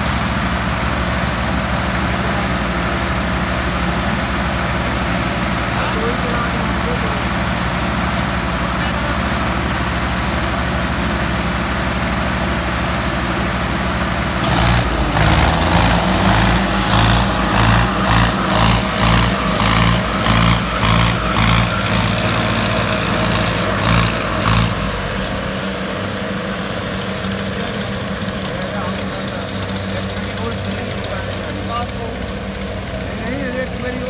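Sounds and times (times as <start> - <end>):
diesel tractor engines pulling hard: 0.0 - 34.0.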